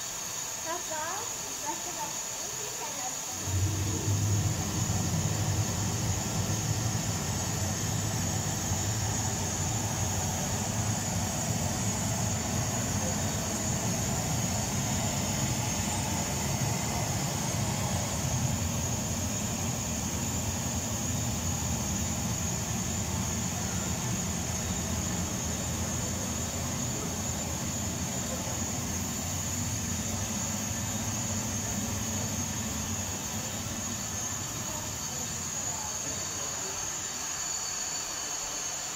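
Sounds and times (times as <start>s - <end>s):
high hiss: 0.0s - 38.9s
low rumble: 3.4s - 34.8s.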